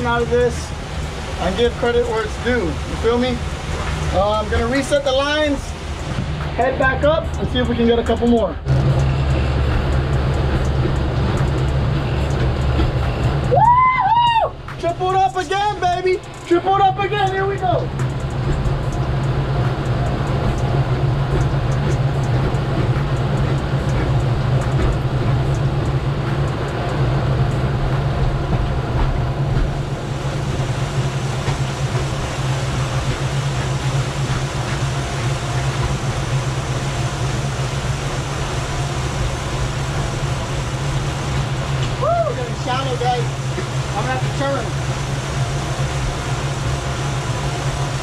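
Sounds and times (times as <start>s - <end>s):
outboard motors droning: 0.0s - 48.0s
water rushing: 0.0s - 48.0s.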